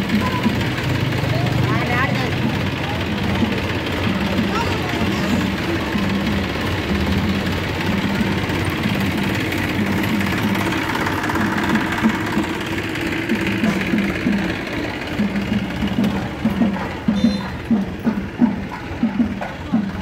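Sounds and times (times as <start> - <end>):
quick pitched drum beats: 0.0 - 20.0
vehicle engine running: 0.0 - 20.0.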